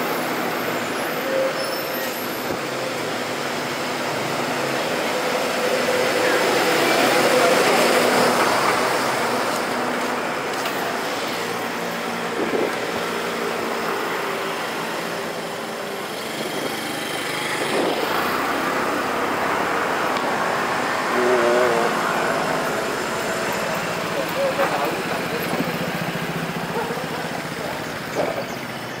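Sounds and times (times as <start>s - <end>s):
bus engine: 0.0s - 29.0s
cars and scooters passing: 0.0s - 29.0s.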